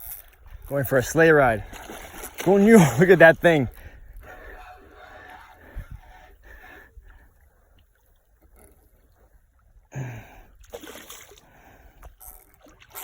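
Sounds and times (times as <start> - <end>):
water splashing around a canoe: 0.0 - 13.0.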